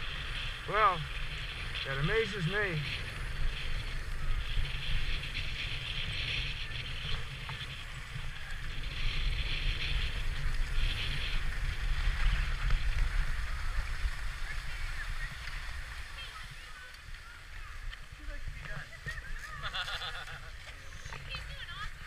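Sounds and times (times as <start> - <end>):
skis scraping over snow: 0.0 - 22.0
wind buffeting microphone: 0.0 - 22.0.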